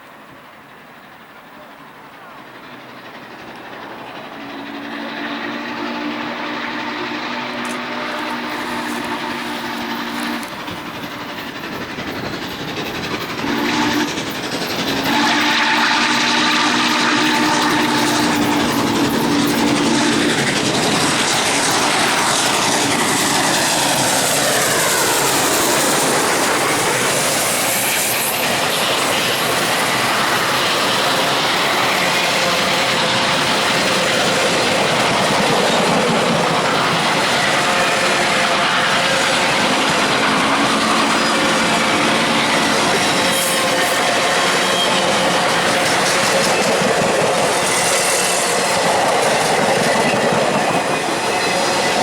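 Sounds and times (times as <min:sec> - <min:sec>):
clickety-clack of train cars: 0:00.0 - 0:52.0
train wheels rushing on rail: 0:00.0 - 0:52.0.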